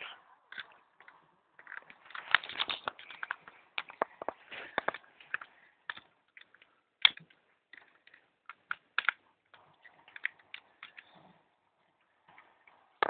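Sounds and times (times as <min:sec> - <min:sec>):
plastic toy parts clicking: 0:00.5 - 0:11.2.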